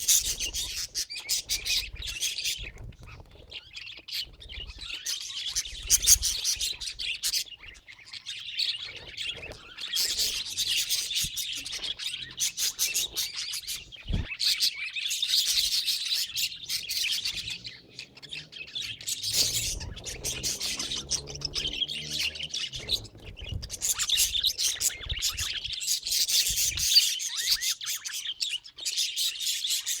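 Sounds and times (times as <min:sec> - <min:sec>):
budgerigars chattering and warbling: 0:00.0 - 0:30.0.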